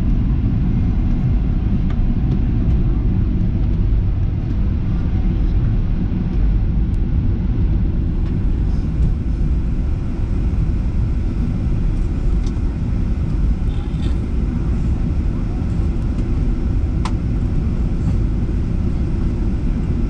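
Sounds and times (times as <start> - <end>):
airliner low rumble: 0.0 - 20.0.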